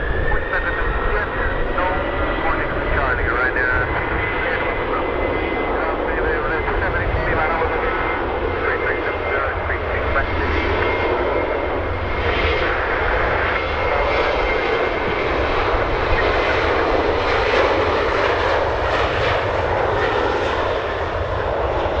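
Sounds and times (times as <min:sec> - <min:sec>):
jet engines whining and rumbling: 0:00.0 - 0:22.0.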